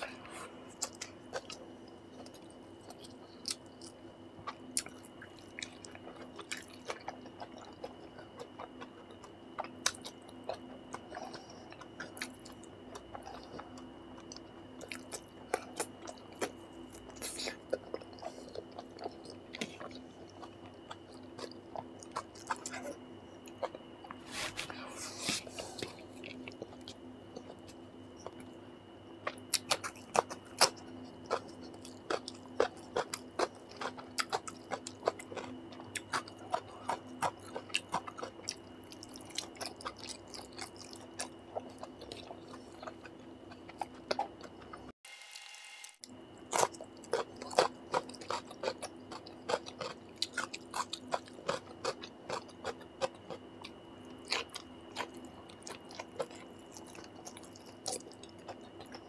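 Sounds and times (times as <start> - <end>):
man chewing: 0.0 - 28.6, 29.2 - 44.9, 46.4 - 59.0
steady background hum: 0.0 - 59.0.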